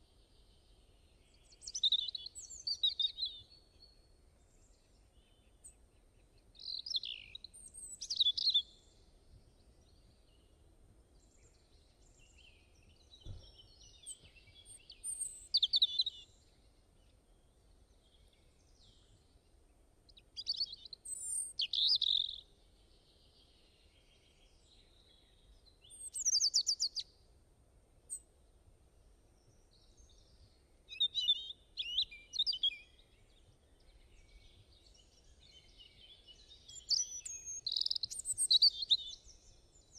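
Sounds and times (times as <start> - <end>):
songbird singing: 0.0 - 27.4, 28.0 - 39.9
faint background noise: 0.0 - 39.9.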